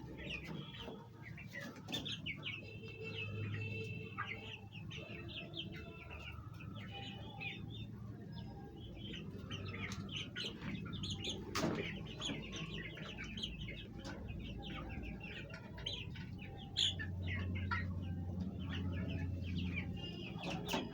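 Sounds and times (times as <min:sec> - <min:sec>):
hens clucking: 0:00.0 - 0:20.9.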